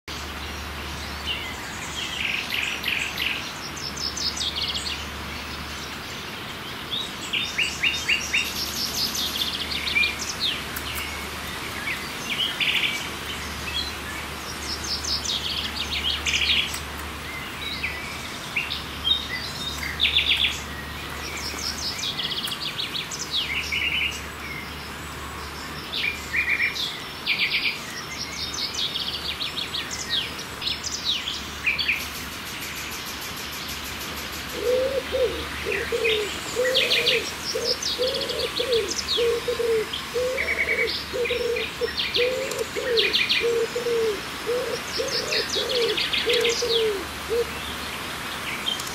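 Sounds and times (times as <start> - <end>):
songbirds chirping and trilling: 0.1 - 48.9.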